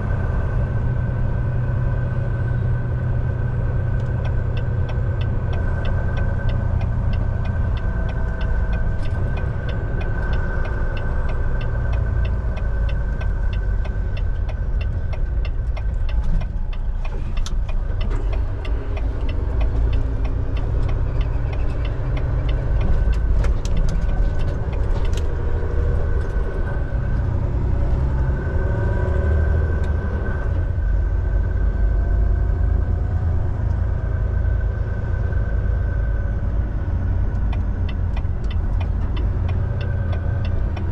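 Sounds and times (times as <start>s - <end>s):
constant whine: 0.0s - 40.9s
truck engine and road rumble: 0.0s - 40.9s.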